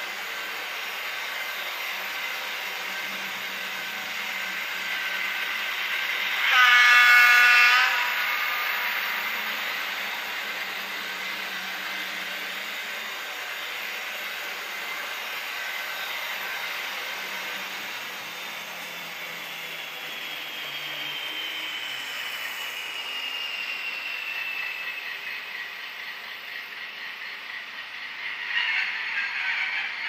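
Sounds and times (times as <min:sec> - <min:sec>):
model train rolling on rails: 0:00.0 - 0:30.0.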